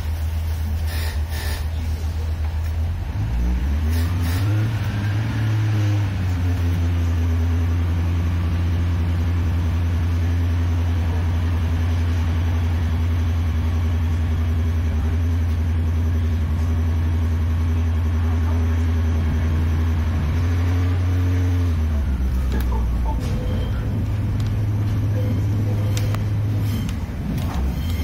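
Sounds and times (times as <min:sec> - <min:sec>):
train diesel engine droning: 0:00.0 - 0:28.0.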